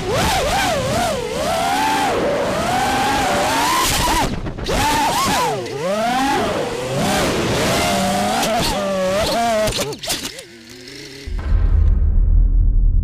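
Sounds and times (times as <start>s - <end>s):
drone motors whining: 0.0s - 11.4s.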